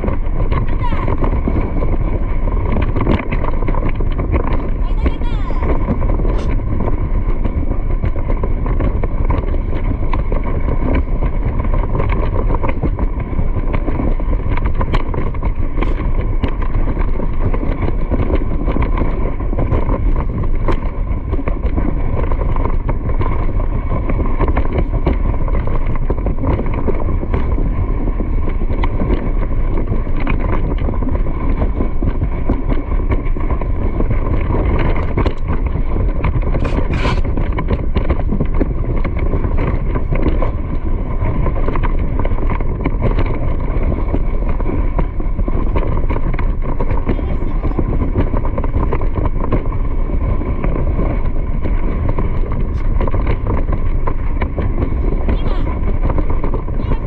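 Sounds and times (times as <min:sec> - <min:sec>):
moving vehicle running noise: 0:00.0 - 0:57.0
wind buffeting microphone: 0:00.0 - 0:57.0.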